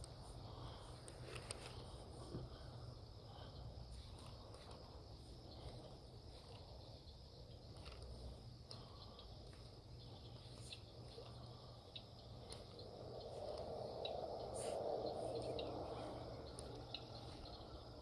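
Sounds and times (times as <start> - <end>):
high insect chirring: 0.0 - 18.0.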